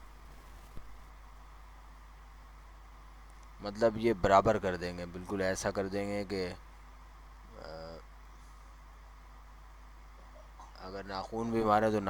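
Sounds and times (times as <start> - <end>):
steady low hum with hiss: 0.0 - 12.0.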